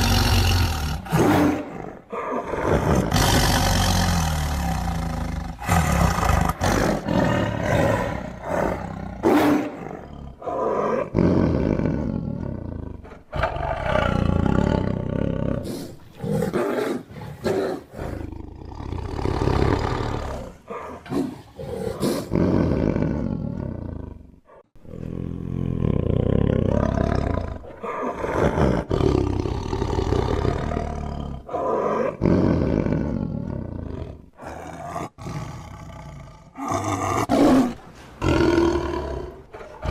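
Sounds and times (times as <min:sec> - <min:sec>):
tiger roaring: 0:00.0 - 0:39.9.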